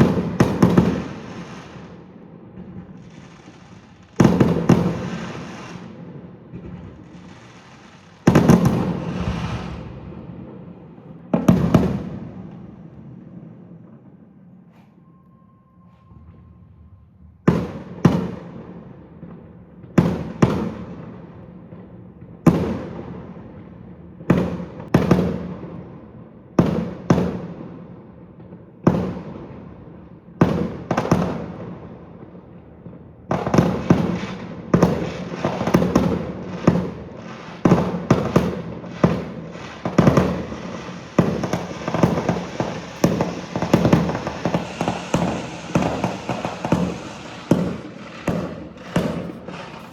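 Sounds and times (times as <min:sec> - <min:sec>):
fireworks bangs with rolling echo: 0:00.0 - 0:14.7, 0:16.2 - 0:49.9.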